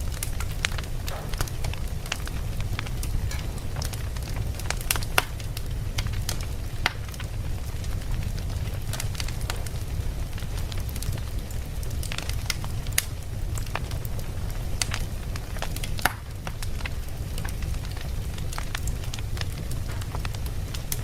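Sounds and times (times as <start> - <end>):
campfire crackling: 0.0 - 21.0
low rumble of flames: 0.0 - 21.0.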